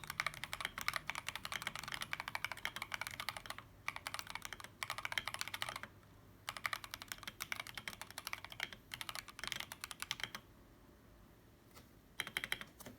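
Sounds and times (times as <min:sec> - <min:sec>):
mechanical keyboard typing: 0:00.0 - 0:10.4, 0:12.2 - 0:12.9.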